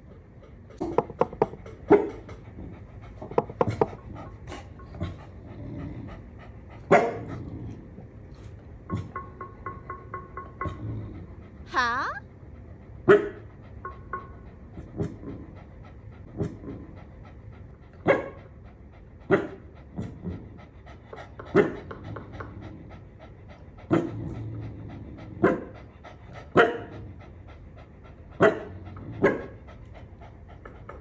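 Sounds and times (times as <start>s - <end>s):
dog panting: 0.0s - 31.0s.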